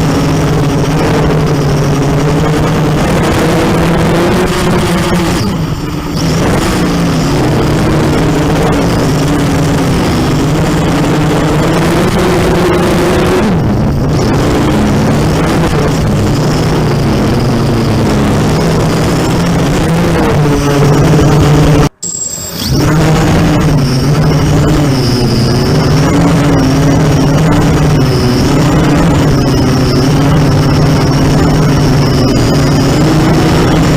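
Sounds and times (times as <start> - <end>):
drone motors buzzing: 0.0 - 33.9.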